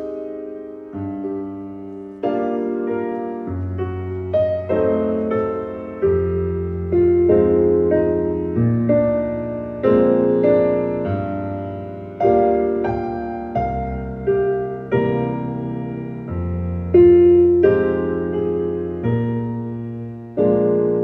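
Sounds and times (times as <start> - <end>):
gentle piano chords: 0.0 - 21.0.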